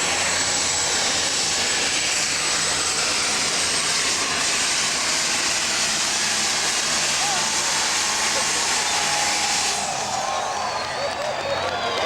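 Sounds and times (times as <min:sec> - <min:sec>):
diesel tractor engine roaring: 0:00.0 - 0:12.0.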